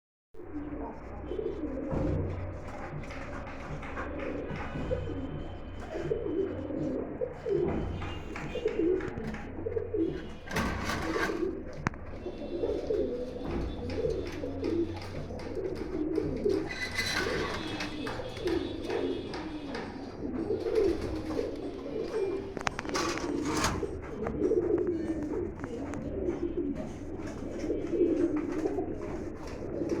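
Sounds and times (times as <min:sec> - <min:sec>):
pigeons cooing: 0:00.4 - 0:30.0.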